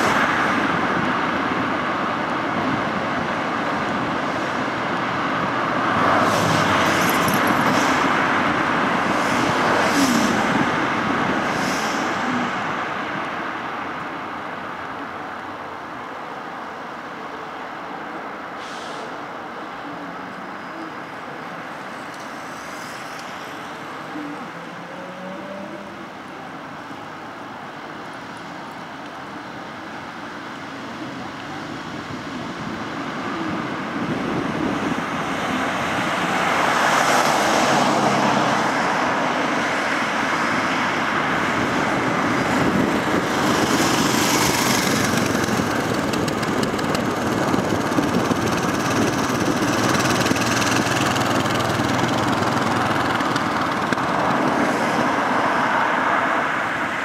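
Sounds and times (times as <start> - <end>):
car road noise: 0.0 - 57.0
vehicles passing: 0.0 - 57.0.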